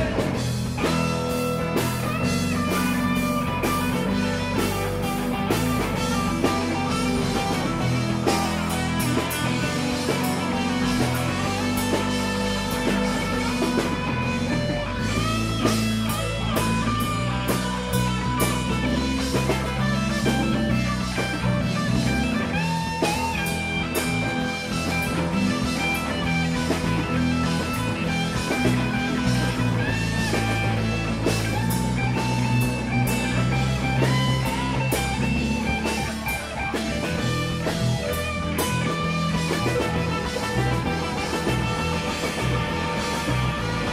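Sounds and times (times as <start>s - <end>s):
bass guitar: 0.0s - 43.9s
drum kit: 0.0s - 43.9s
electric guitar bending notes: 0.0s - 43.9s.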